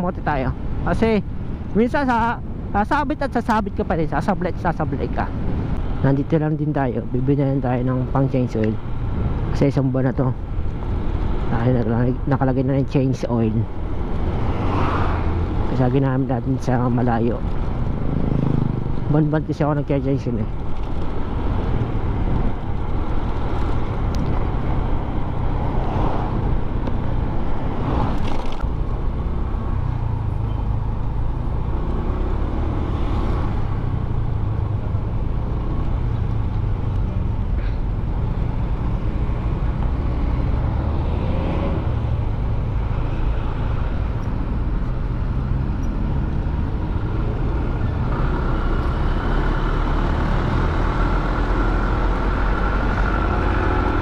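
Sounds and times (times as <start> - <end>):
passing traffic: 0.0 - 54.0.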